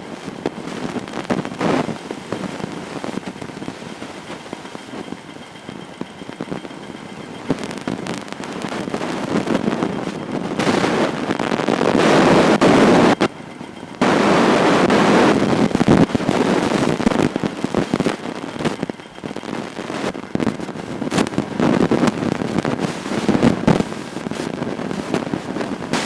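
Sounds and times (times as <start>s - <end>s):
motorcycle engine popping: 0.3s - 26.0s.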